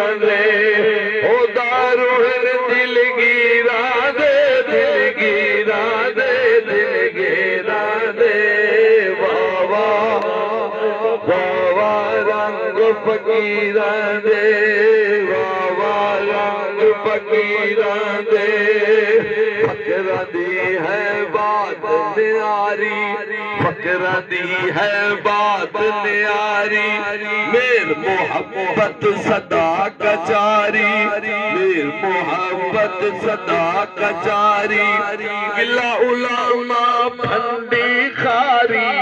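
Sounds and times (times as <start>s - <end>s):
man singing wavering melody: 0.0s - 39.0s.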